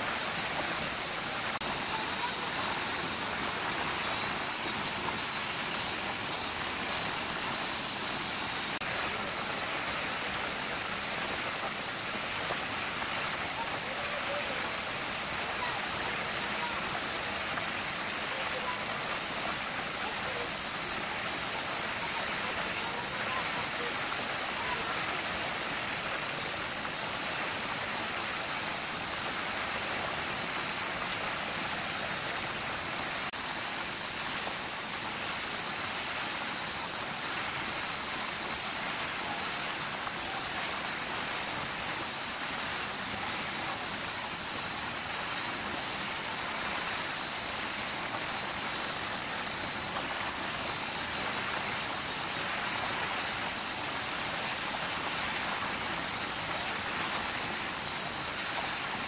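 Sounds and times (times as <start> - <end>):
cicadas chorus: 0.0 - 59.0.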